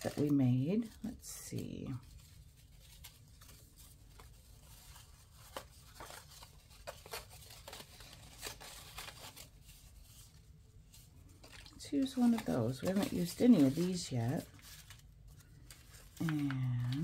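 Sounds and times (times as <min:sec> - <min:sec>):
paper tickets rustling: 0:00.0 - 0:17.0.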